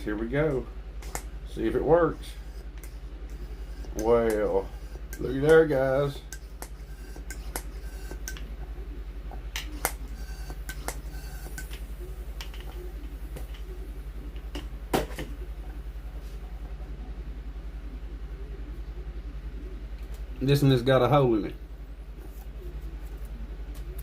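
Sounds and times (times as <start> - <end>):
low pulsing hum: 0.0 - 20.4.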